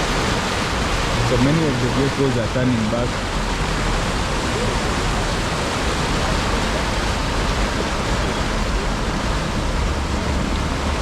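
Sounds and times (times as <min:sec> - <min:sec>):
heavy rain: 0:00.0 - 0:11.0
rushing floodwater: 0:00.0 - 0:11.0.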